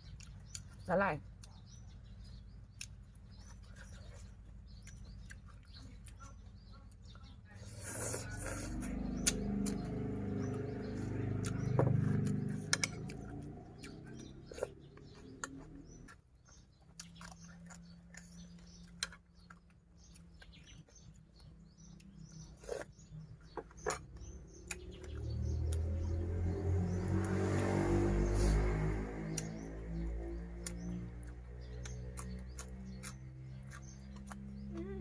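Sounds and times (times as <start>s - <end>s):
birds chirping: 0.0s - 35.0s
close chewing and crunching: 0.0s - 35.0s.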